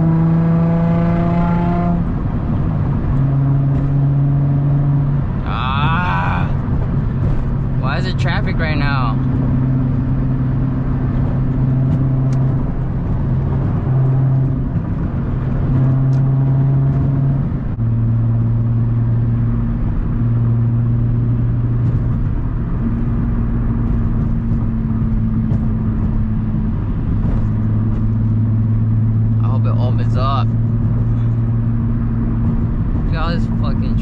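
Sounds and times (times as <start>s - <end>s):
low exhaust drone: 0.0s - 34.0s.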